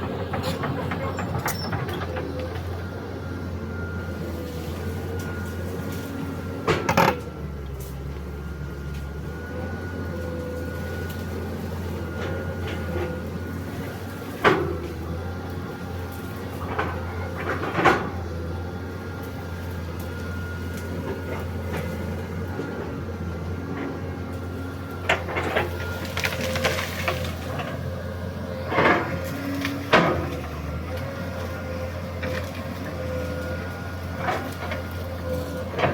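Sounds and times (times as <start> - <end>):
diesel engine whining: 0.0 - 35.9.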